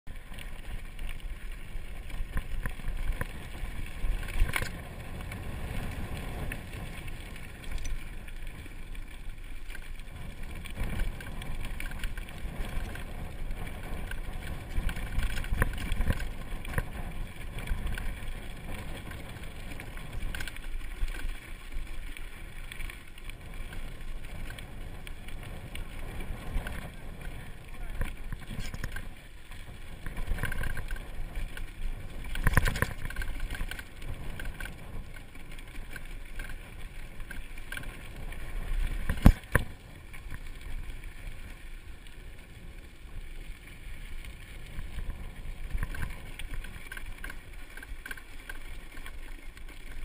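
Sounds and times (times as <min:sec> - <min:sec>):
bike rattling: 0:00.1 - 0:50.0
tyres rumbling on gravel: 0:00.1 - 0:50.0.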